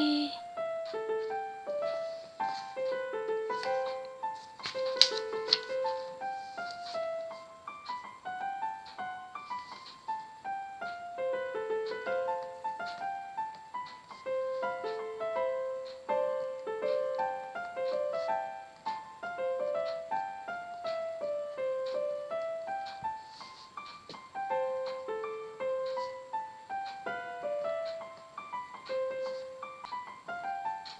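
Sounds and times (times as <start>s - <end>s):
light piano melody: 0.0s - 30.9s.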